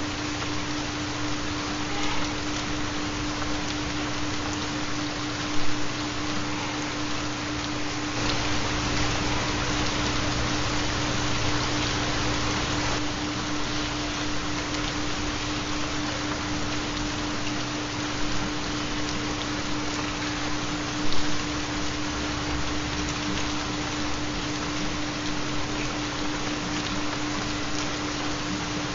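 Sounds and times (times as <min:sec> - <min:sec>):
rain: 0:00.0 - 0:28.9.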